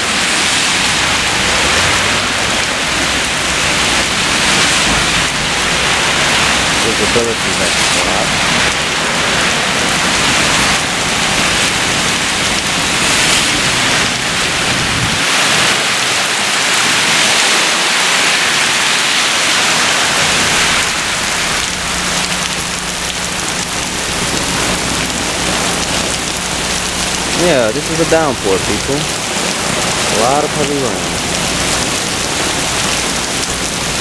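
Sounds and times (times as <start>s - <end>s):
torrential rain pouring: 0.0s - 34.0s.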